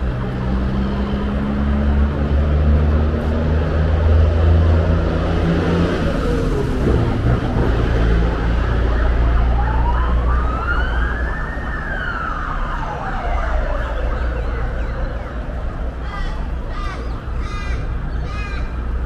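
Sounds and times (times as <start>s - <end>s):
emergency siren wailing: 0.0s - 3.0s, 4.7s - 17.3s
low rumble of road traffic: 0.0s - 19.0s.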